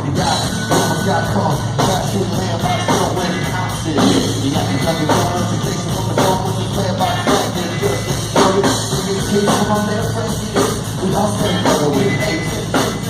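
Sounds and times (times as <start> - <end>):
bass line: 0.0 - 13.0
live rock band playing: 0.0 - 13.0.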